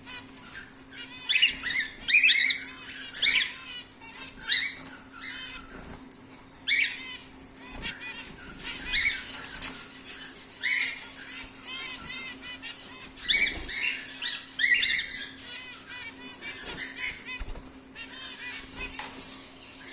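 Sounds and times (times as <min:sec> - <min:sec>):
cockatiels chirping calls: 0:00.0 - 0:19.9
faint steady hum: 0:00.0 - 0:19.9.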